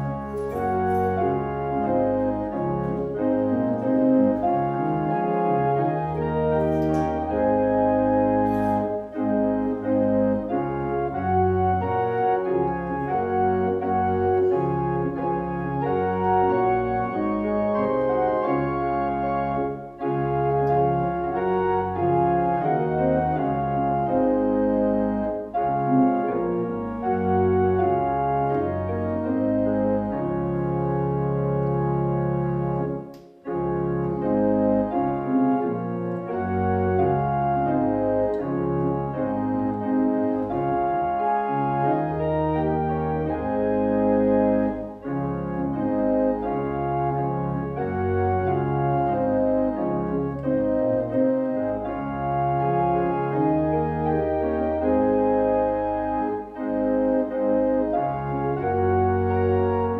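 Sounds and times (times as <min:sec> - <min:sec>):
organ playing held chords: 0:00.0 - 0:59.9.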